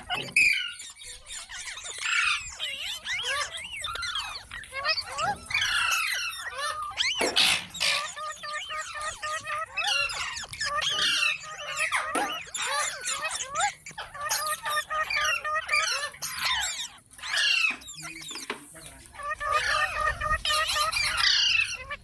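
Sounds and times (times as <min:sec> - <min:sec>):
parakeet chattering: 0:00.0 - 0:22.0
parakeet screeching: 0:00.0 - 0:22.0.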